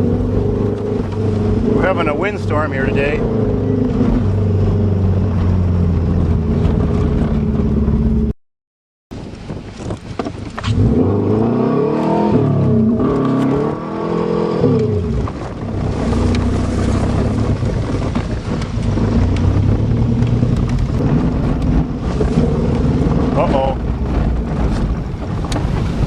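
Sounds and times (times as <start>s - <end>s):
car engine revving: 0.0s - 8.3s, 10.6s - 26.0s.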